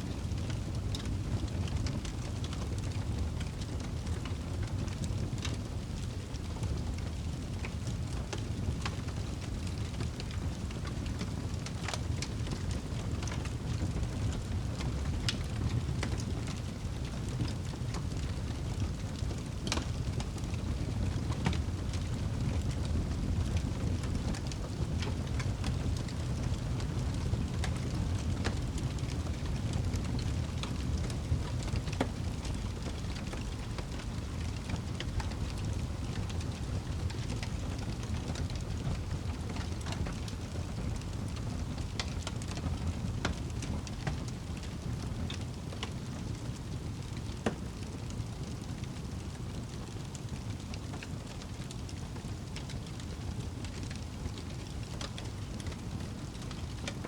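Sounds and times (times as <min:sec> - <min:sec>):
low rumble of flames: 0:00.0 - 0:57.0
wood fire crackling and popping: 0:00.1 - 0:57.0.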